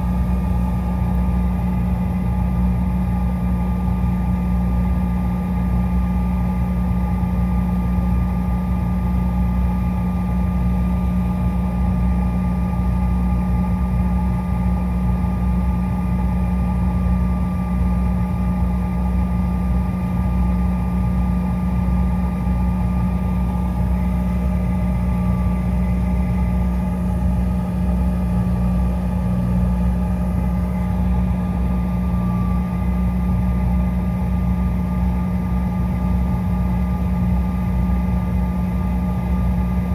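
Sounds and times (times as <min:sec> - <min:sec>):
jet engines humming in cabin: 0:00.0 - 0:39.9.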